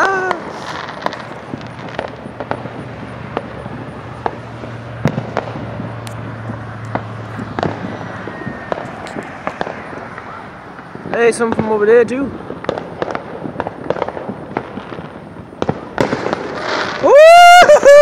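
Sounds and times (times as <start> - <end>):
distant fireworks popping: 0.0 - 18.0.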